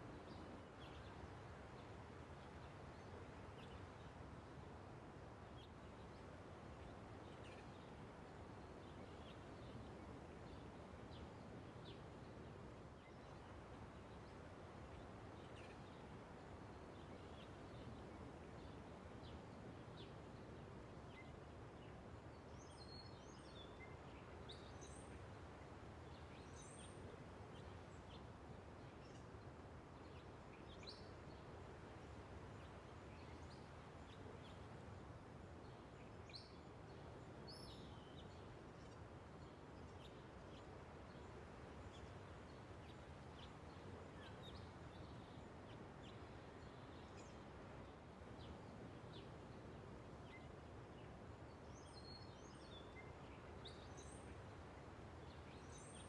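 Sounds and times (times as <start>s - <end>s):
low outdoor hiss: 0.0s - 56.0s.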